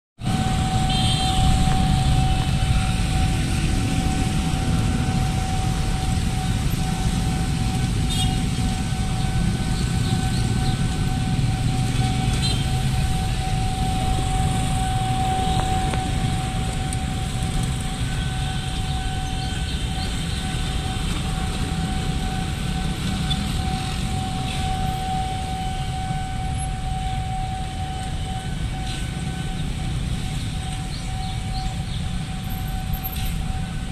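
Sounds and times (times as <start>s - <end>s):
crossing alarm warning tone: 0.2s - 33.9s
traffic over level crossing: 0.2s - 33.9s.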